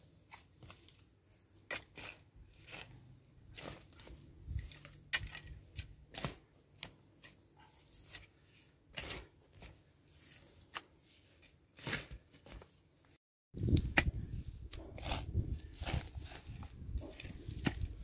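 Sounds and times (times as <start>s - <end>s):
footsteps on dry straw and twigs: 2.0s - 18.0s.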